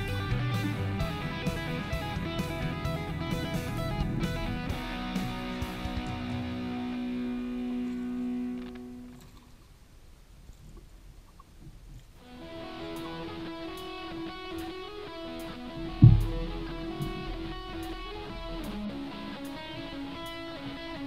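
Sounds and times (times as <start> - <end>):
guitar music with held notes: 0.0 - 9.2, 12.2 - 21.0.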